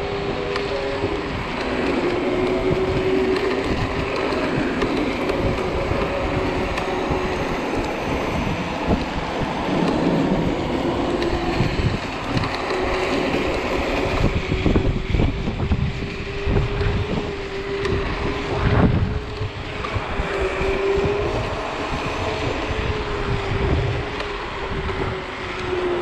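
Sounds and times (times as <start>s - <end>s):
tyre and road rumble: 0.0s - 26.0s
wind on microphone: 0.0s - 26.0s.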